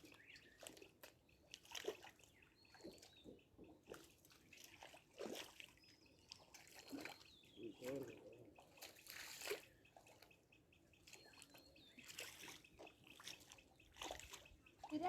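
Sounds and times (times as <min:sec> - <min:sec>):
pond water splashing: 0:00.0 - 0:15.0.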